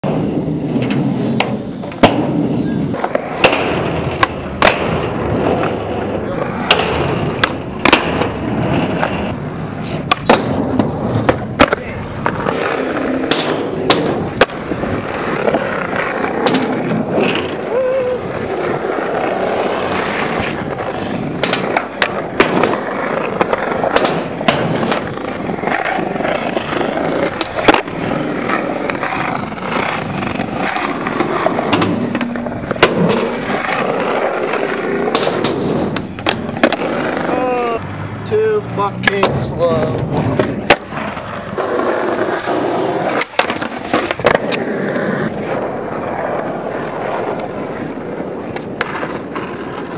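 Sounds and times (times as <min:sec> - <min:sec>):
skateboard pops and clacks: 0:00.0 - 0:17.7, 0:18.6 - 0:38.1, 0:39.0 - 0:49.9
skateboard scraping along ledge: 0:00.0 - 0:49.9
skateboard wheels rolling on concrete: 0:00.0 - 0:49.9.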